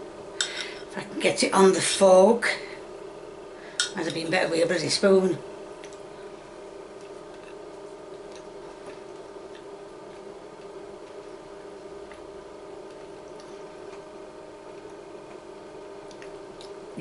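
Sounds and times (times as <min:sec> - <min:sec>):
room tone hum: 0:00.0 - 0:17.0.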